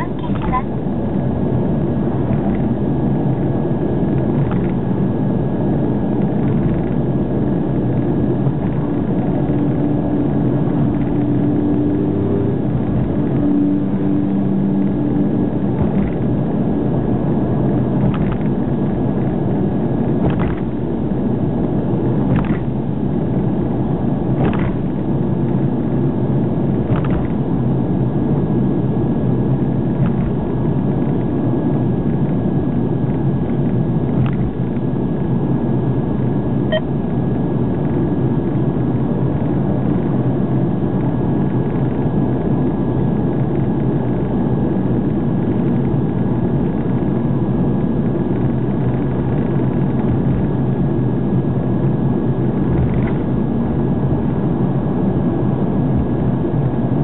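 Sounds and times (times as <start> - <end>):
car road noise inside cabin: 0.0 - 57.0
engine hum: 0.0 - 57.0.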